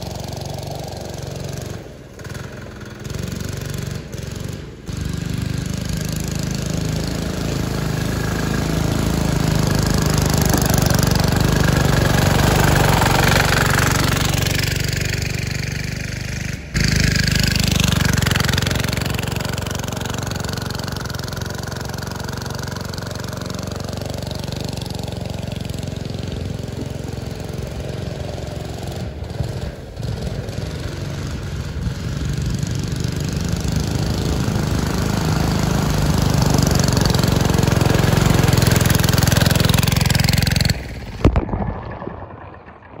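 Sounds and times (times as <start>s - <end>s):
small diesel engine under load: 0.0s - 41.5s
go-kart driving through mud and water: 0.0s - 43.0s.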